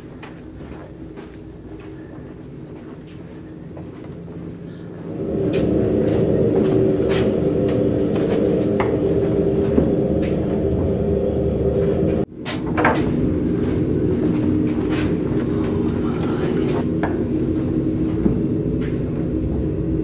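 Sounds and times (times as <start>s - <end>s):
droning hum: 0.0s - 20.0s
mechanical rumble: 0.0s - 20.0s.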